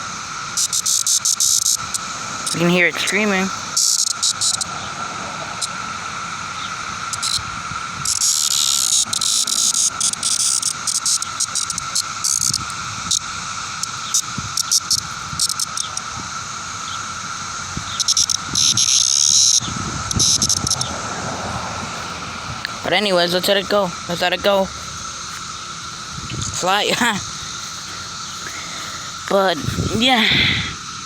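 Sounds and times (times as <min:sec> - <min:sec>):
cicada buzzing in harsh bursts: 0:00.0 - 0:31.0
cicada clicks: 0:00.0 - 0:31.0
cicadas droning: 0:00.0 - 0:31.0.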